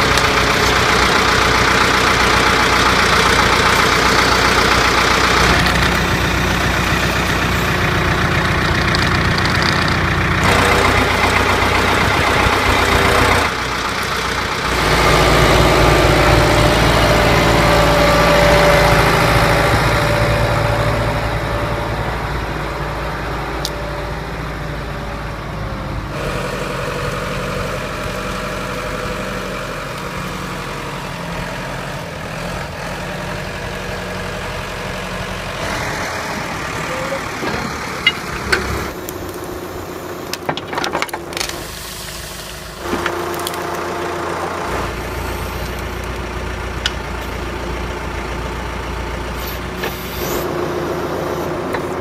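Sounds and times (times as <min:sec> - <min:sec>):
diesel engine running: 0:00.0 - 0:52.0
hydraulic crane working: 0:00.0 - 0:52.0.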